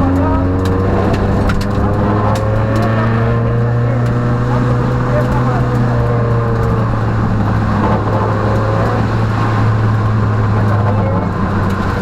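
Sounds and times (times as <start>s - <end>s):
rally car engine running hard: 0.0s - 12.0s
road noise rushing: 0.0s - 12.0s.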